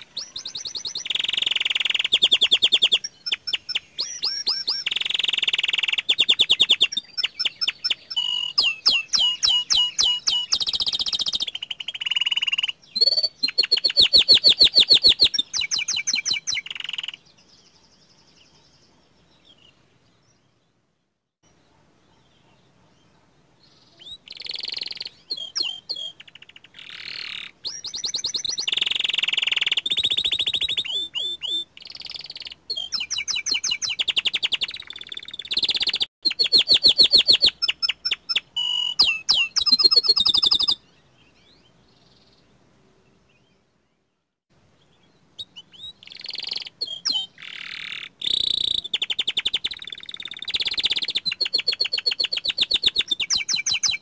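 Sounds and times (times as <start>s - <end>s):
canary singing trills: 0.0s - 20.5s, 21.4s - 42.5s, 44.8s - 54.0s.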